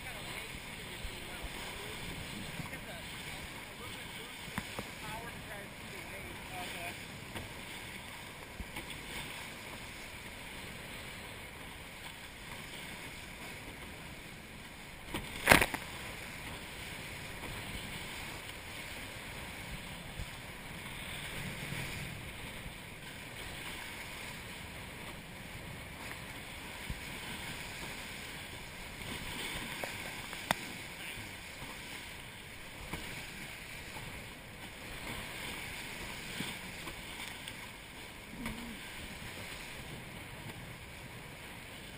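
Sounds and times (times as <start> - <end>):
water rushing and splashing: 0.0 - 41.9
wind: 0.0 - 41.9.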